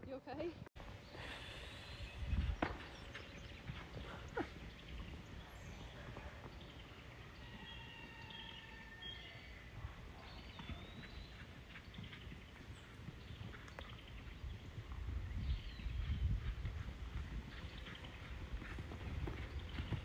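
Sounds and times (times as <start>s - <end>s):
distant horse hoofbeats: 0.0s - 20.0s.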